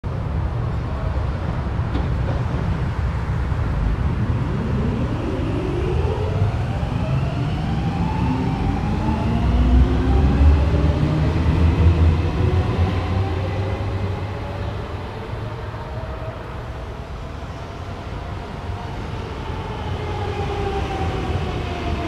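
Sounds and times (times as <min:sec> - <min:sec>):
metro train rumble and whine: 0:00.1 - 0:22.0.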